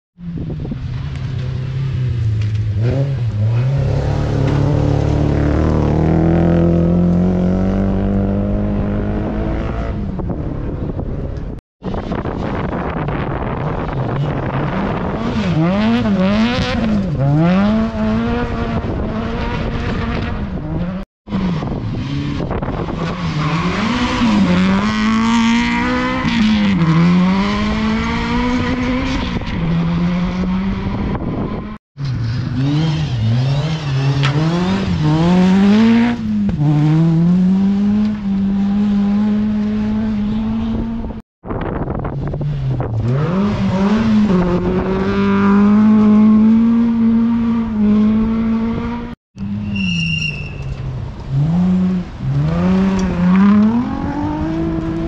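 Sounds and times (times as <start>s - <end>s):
rally car engines revving: 0.2s - 55.0s.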